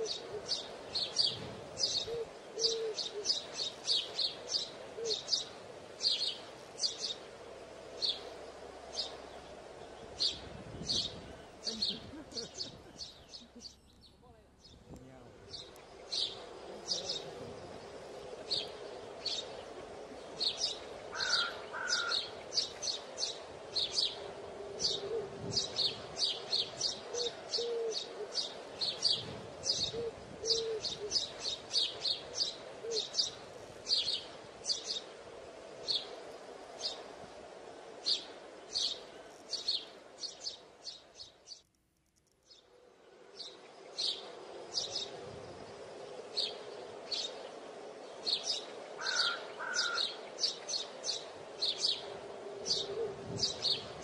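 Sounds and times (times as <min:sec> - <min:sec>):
birds chirping: 0:00.0 - 0:41.7, 0:42.4 - 0:54.0.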